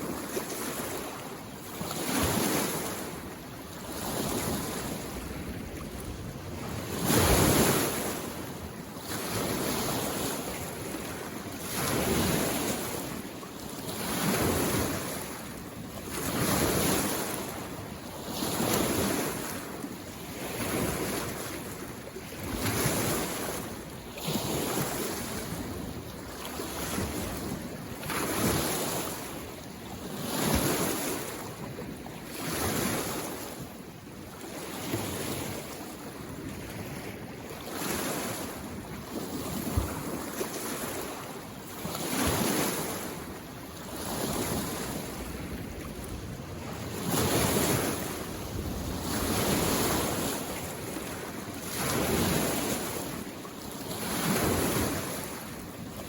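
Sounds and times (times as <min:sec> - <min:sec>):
lake waves lapping on shore: 0:00.0 - 0:56.0.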